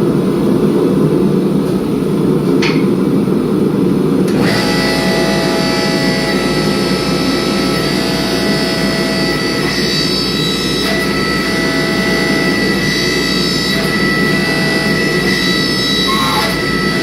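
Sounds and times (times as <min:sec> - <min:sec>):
forge burner roaring: 0:00.0 - 0:17.0
steady high whine: 0:00.0 - 0:17.0.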